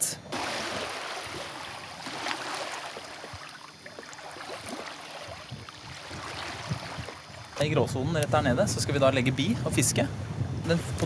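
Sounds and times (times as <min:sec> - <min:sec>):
water splashing along hull: 0:00.2 - 0:09.3.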